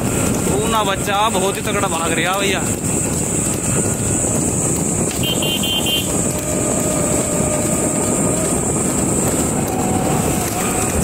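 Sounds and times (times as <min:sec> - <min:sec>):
vehicle engine and road rumble: 0:00.0 - 0:11.0
wind on microphone: 0:00.0 - 0:11.0.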